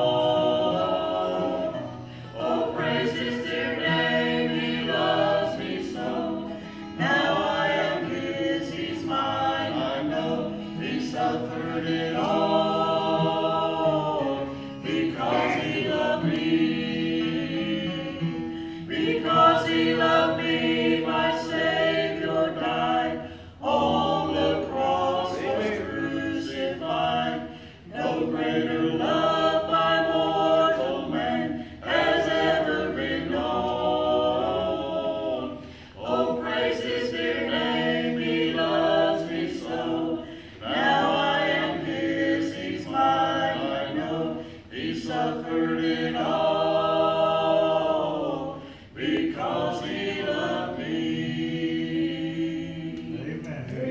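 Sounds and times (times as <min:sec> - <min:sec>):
quartet singing hymn in harmony: 0:00.0 - 0:53.9.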